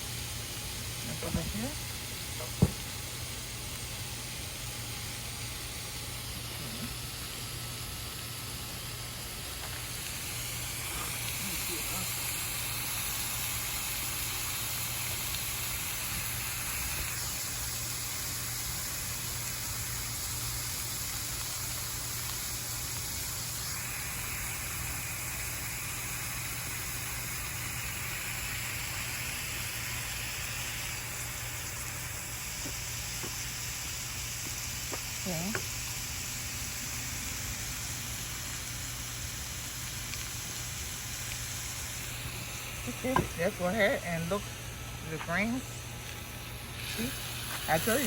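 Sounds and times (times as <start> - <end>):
greens sizzling in a pan: 0.0 - 48.0.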